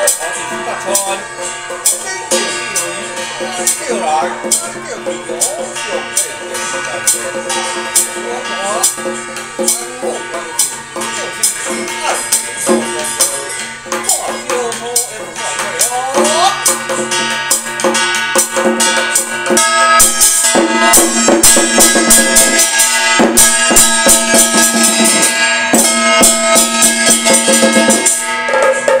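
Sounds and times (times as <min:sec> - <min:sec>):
drum and cymbal strikes: 0:00.0 - 0:29.0
ringing gong tones: 0:00.0 - 0:29.0.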